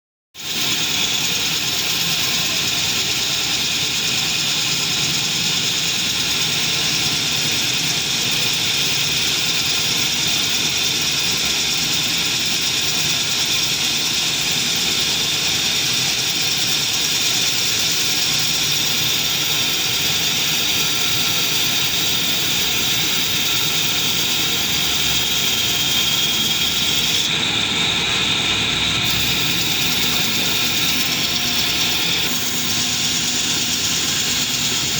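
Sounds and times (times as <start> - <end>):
metal lathe running: 0.4 - 34.9.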